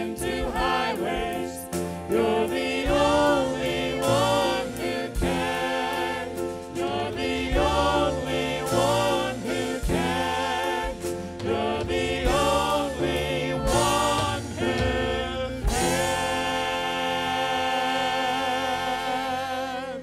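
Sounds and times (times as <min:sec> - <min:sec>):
instrumental backing: 0:00.0 - 0:19.9
group singing worship song: 0:00.0 - 0:20.0.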